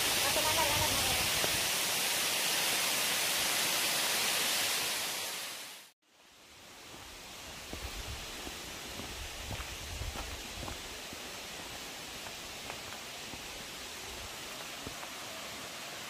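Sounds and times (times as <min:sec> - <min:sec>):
waterfall rushing: 0:00.0 - 0:05.9, 0:06.8 - 0:16.0
outdoor hiss: 0:00.0 - 0:16.0.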